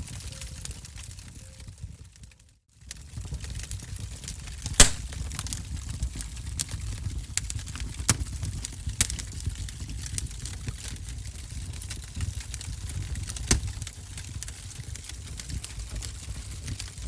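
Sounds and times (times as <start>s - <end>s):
low rumble of flame: 2.8s - 17.0s
wood fire crackling and popping: 2.8s - 17.0s.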